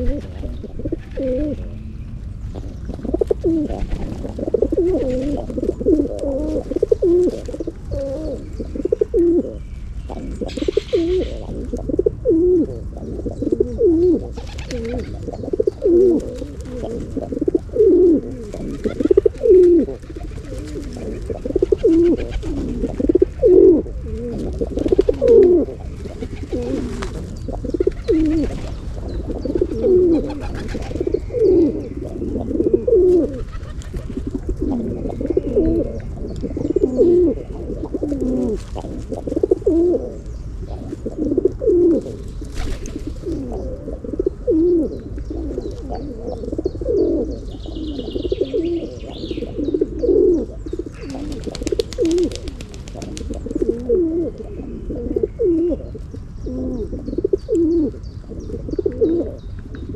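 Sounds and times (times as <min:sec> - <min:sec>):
low steady background rumble: 0:00.0 - 0:59.9
pigeons cooing: 0:00.0 - 0:59.9.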